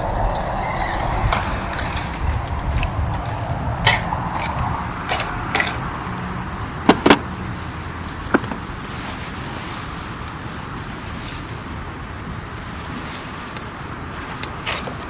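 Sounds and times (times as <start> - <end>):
low fire rumble: 0.0 - 12.9.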